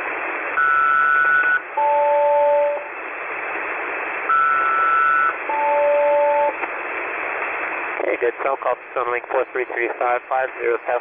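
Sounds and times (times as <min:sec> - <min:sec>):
shortwave radio hiss: 0:00.0 - 0:11.0.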